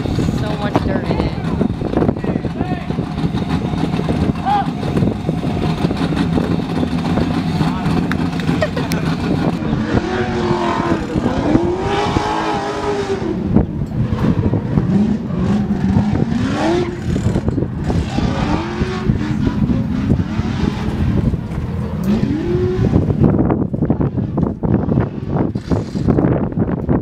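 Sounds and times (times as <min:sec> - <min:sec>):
car engine revving: 0:00.0 - 0:26.5
steady rushing noise: 0:00.0 - 0:27.0.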